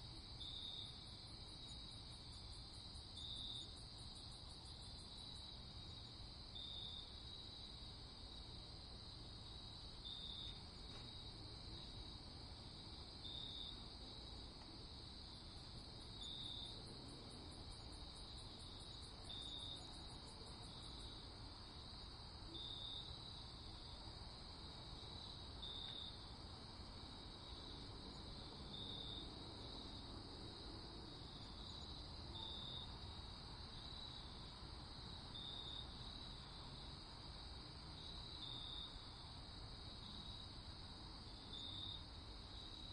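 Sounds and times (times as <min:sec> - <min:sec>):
loud cricket chirp: 0:00.0 - 0:42.9
crickets trilling: 0:00.2 - 0:42.9.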